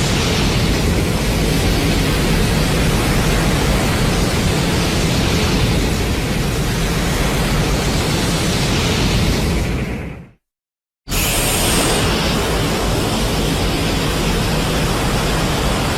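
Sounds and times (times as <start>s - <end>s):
rushing roar over deep rumble: 0.0s - 10.2s, 11.2s - 15.9s.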